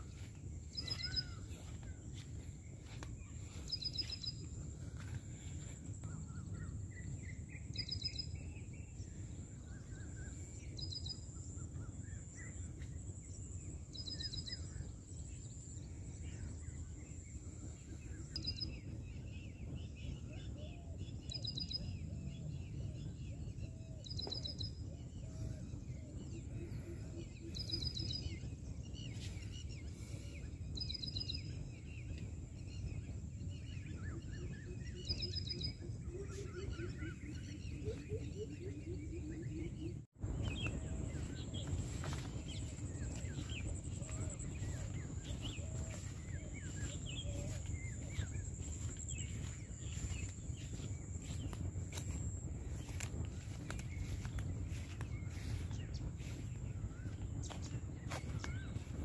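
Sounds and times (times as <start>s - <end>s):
bird chirps: 0.0s - 9.0s, 16.4s - 59.0s
steady low rumble: 0.0s - 59.0s.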